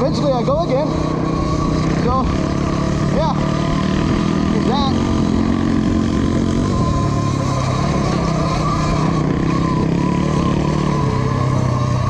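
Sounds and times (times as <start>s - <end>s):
electric motor whine: 0.0s - 12.0s
wind and tyre noise: 0.0s - 12.0s.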